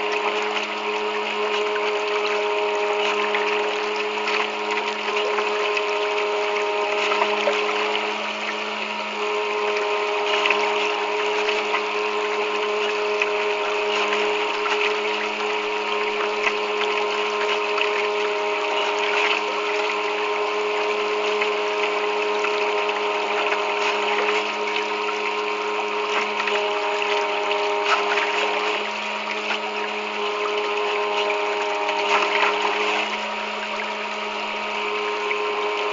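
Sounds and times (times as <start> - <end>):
boat motor humming: 0.0 - 35.9
water splashing against hull: 0.0 - 35.9.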